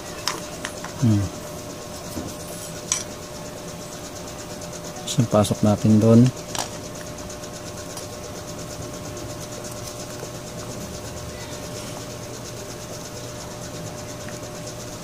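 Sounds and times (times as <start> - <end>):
fast pulsing hiss: 0.0 - 15.0
mechanical hum: 0.0 - 15.0.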